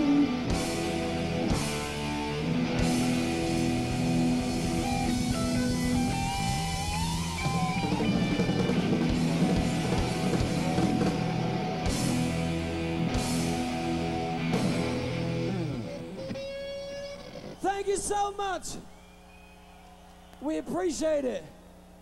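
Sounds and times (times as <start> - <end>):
electric guitar lead line: 0.0 - 17.6
live rock band playing: 0.0 - 17.6.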